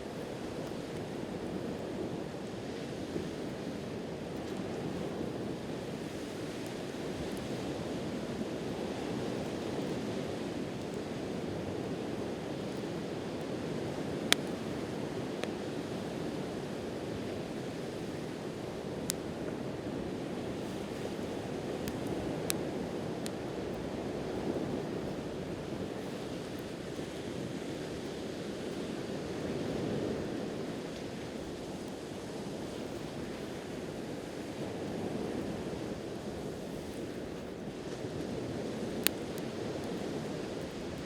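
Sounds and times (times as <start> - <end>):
campfire crackling and popping: 0.0 - 41.0
waves breaking on shore: 0.0 - 41.0.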